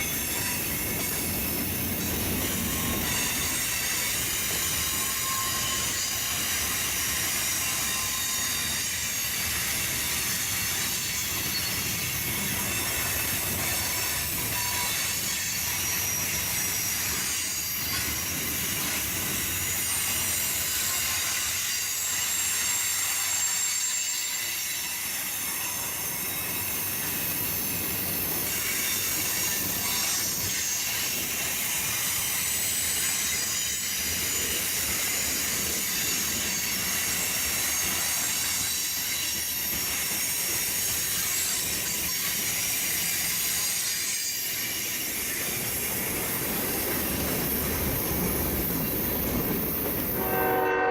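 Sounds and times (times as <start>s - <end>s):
train wheels squealing: 0.0s - 50.9s.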